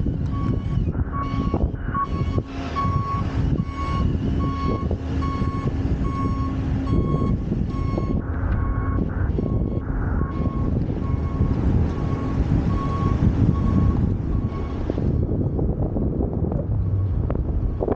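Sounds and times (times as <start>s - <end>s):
engine hum: 0.0s - 17.9s
reversing alarm beeping: 0.2s - 15.6s.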